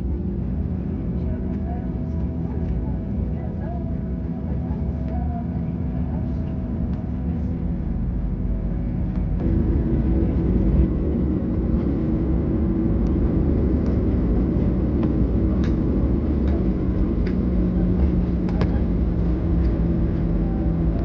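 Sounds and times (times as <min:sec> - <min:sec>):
airplane cabin engine rumble: 0:00.0 - 0:21.0
low hum: 0:00.0 - 0:21.0.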